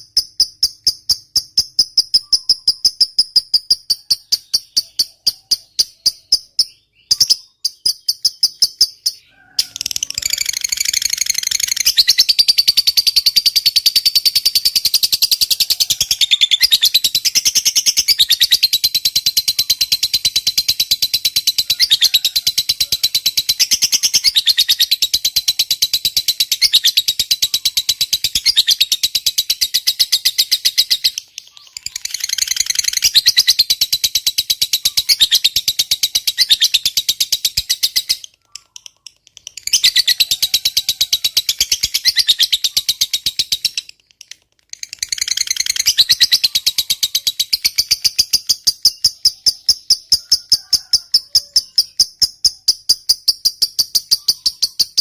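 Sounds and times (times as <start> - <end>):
lovebird chattering call: 0.0 - 55.0.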